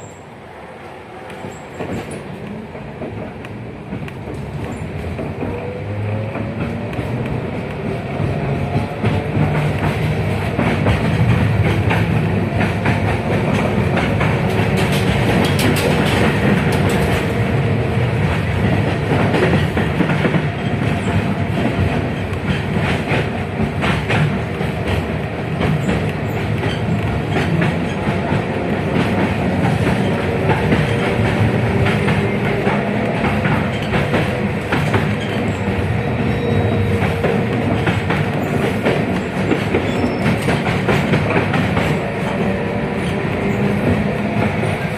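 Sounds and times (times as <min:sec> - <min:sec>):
tram wheels rumbling on track: 0:00.0 - 0:44.9.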